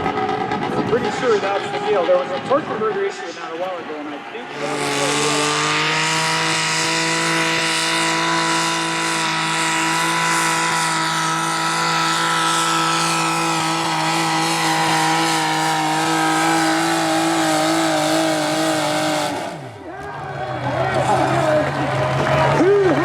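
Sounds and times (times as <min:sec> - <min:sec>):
tractor engine running flat out: 0:00.0 - 0:23.0.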